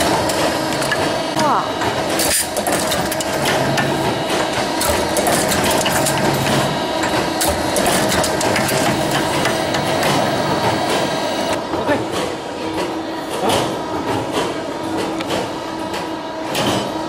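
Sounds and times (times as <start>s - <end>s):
metal clatter of stamping machine: 0.0s - 17.0s
steady machine hum: 0.0s - 17.0s.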